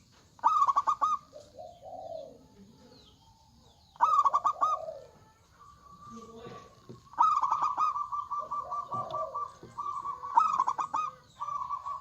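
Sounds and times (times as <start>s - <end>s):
dove cooing: 0.0s - 3.1s, 3.8s - 12.0s
small birds chirping: 0.0s - 12.0s.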